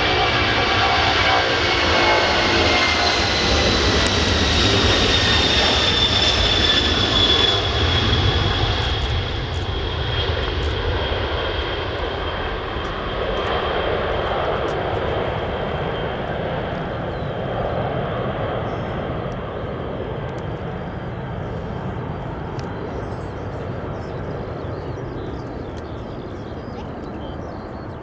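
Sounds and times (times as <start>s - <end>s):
jet engine roar with fan whine: 0.0s - 28.0s.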